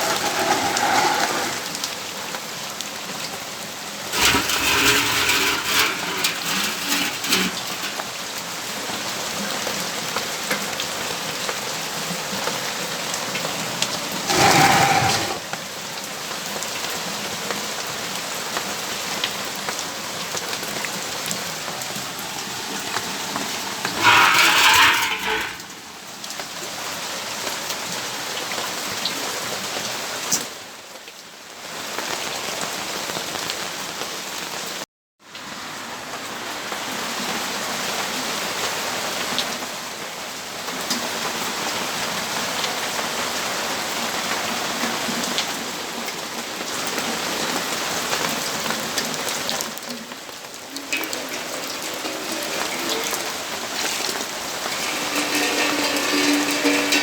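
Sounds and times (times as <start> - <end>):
rain falling: 0.0 - 34.8, 35.4 - 57.0.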